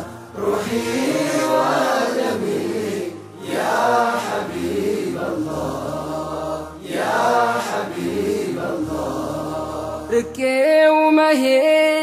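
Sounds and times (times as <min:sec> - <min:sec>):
men singing together: 0:00.0 - 0:10.3.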